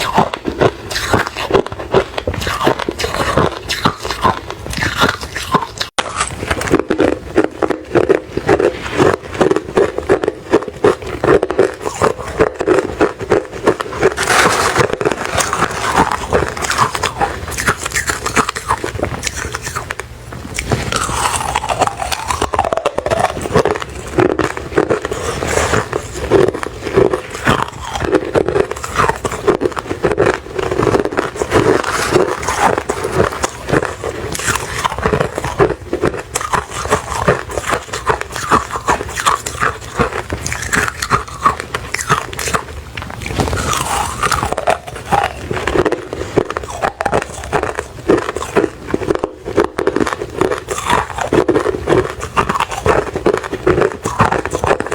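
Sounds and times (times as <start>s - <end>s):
ice being crunched and chewed: 0.0s - 54.9s.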